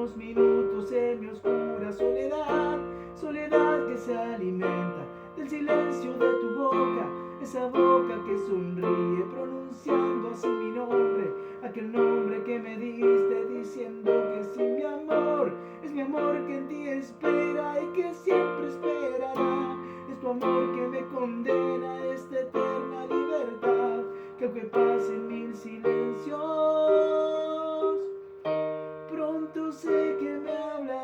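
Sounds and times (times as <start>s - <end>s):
slow keyboard chords: 0.0s - 31.0s.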